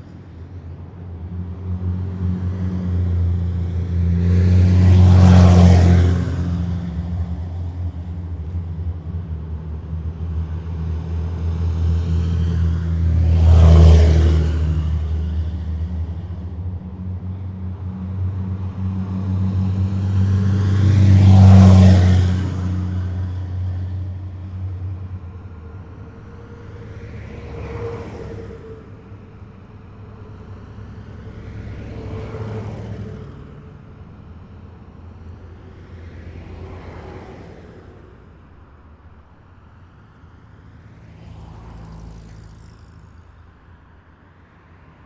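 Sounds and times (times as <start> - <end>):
heavy vehicles passing: 0.0 - 45.0.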